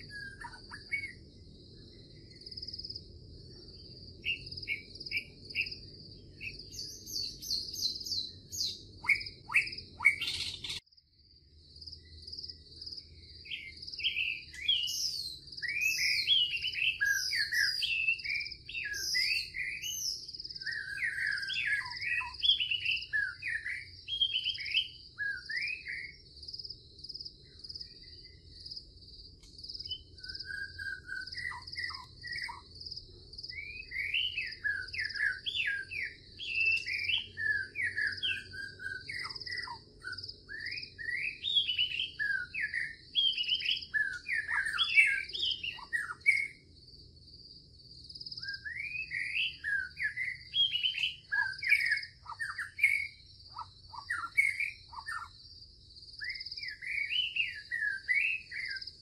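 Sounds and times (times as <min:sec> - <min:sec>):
insect trill: 0:00.0 - 0:59.0
songbird singing: 0:00.0 - 0:59.0.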